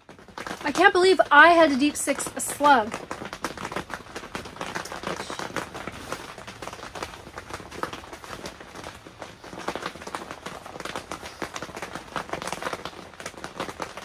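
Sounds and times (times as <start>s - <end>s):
rain pattering on tent fabric: 0.0s - 14.0s.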